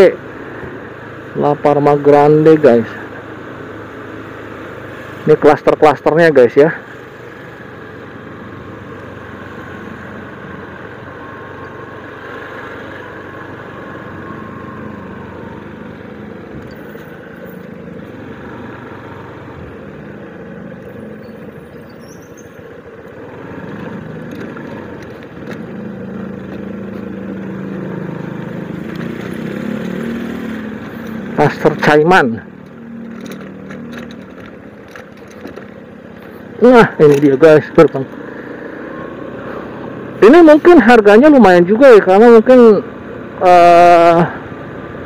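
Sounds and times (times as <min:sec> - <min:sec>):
motorcycle engine running: 0:06.7 - 0:42.8.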